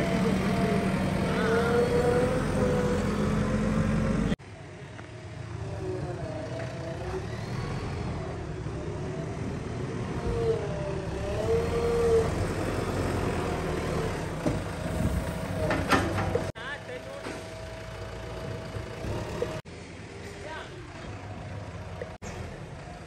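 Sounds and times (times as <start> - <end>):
diesel engine running: 0.0 - 4.4, 5.1 - 23.0.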